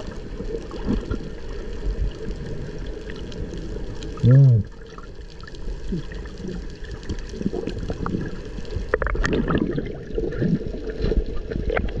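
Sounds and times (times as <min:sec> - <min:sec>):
underwater bubbling rumble: 0:00.0 - 0:12.0.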